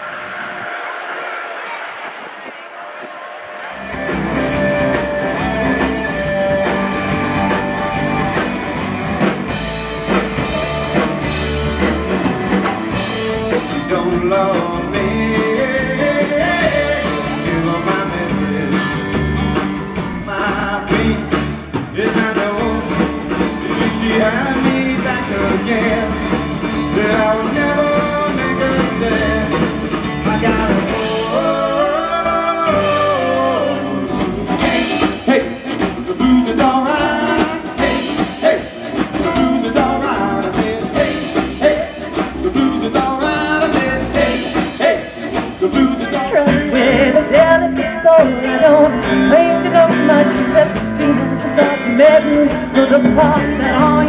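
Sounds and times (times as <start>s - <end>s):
rock and roll music: 0.0s - 54.0s.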